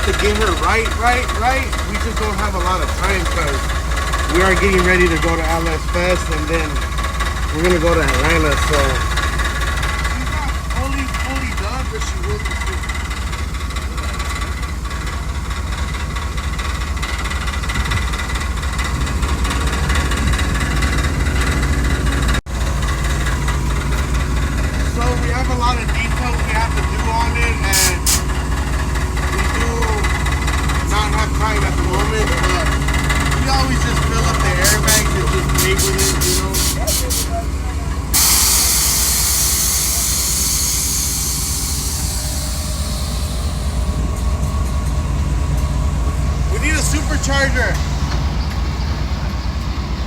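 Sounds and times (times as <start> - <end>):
truck air suspension hissing: 0.0 - 49.9
engine idling: 0.0 - 50.0
steady low hum: 0.0 - 50.0.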